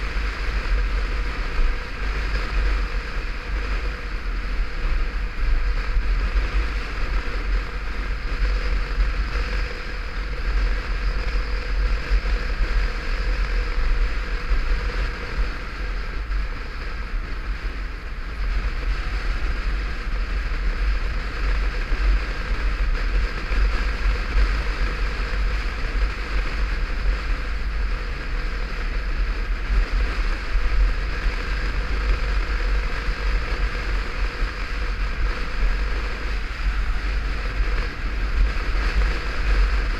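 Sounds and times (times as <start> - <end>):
motorcycle engine drone: 0.0 - 39.9
tyres on road: 0.0 - 39.9
wind rumble on microphone: 0.0 - 39.9.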